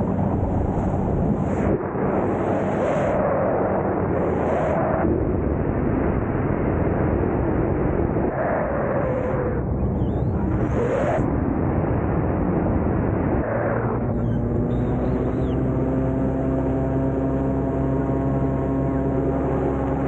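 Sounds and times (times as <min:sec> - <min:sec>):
aircraft engine drone: 0:00.0 - 0:20.0
wind rushing over microphone: 0:00.0 - 0:20.0.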